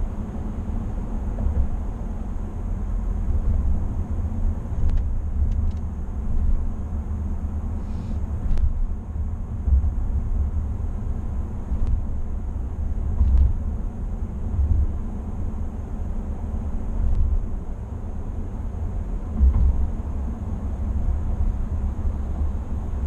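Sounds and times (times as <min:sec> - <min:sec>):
road and drivetrain rumble in cab: 0:00.0 - 0:23.0.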